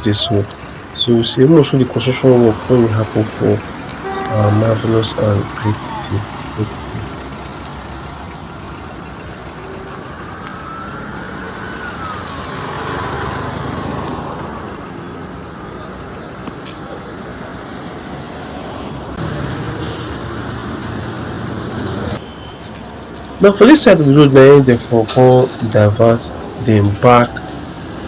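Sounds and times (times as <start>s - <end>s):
nearer car engine: 0.0s - 28.0s
road traffic: 0.0s - 28.0s.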